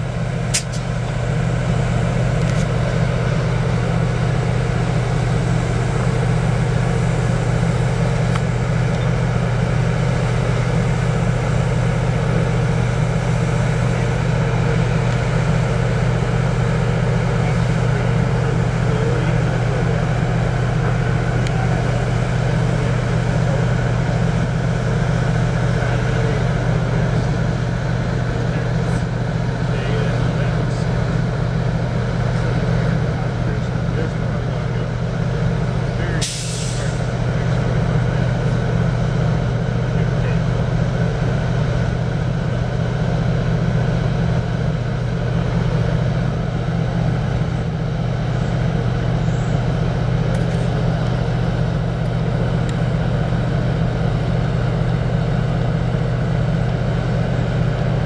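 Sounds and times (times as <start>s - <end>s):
passenger train rolling past: 0.0s - 58.0s.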